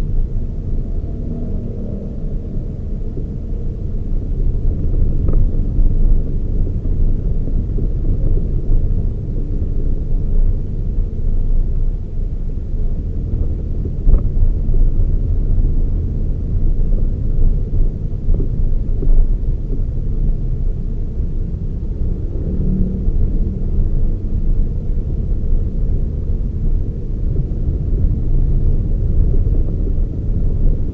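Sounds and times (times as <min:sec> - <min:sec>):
engine and road noise rumble: 0:00.0 - 0:30.9.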